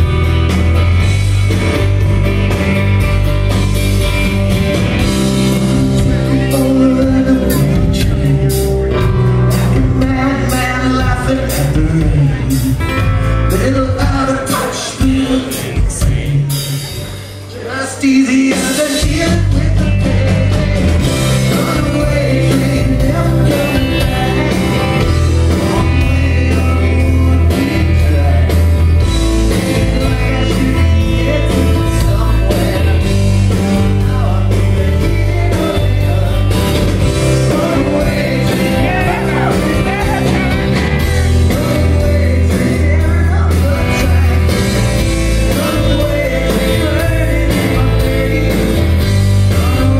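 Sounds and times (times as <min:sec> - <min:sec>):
rock band playing live: 0:00.0 - 0:49.9
male lead vocal: 0:05.0 - 0:49.9.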